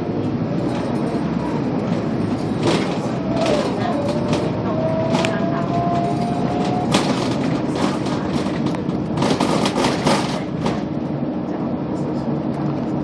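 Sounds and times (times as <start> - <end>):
bus body knocks and rattles: 0.0 - 11.2
bus engine and road noise: 0.0 - 13.0.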